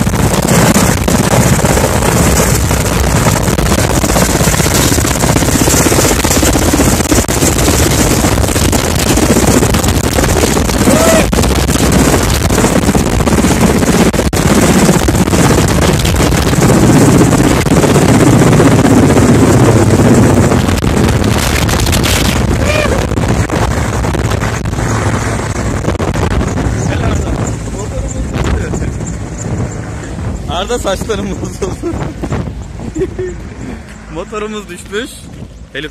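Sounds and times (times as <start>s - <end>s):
helicopter engines and rotor: 0.0s - 35.9s
rotor wash buffeting microphone: 0.0s - 35.9s.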